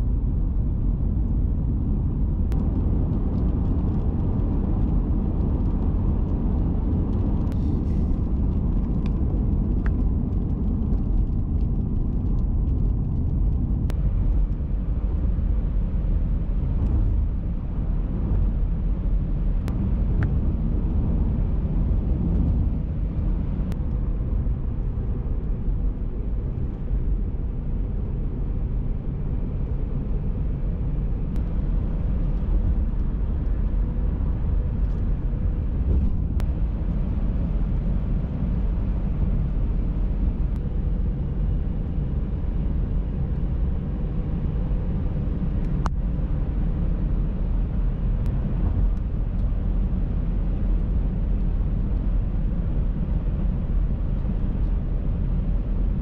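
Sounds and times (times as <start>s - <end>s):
car engine rumble: 0.0s - 56.0s
tyre noise on road: 0.0s - 56.0s.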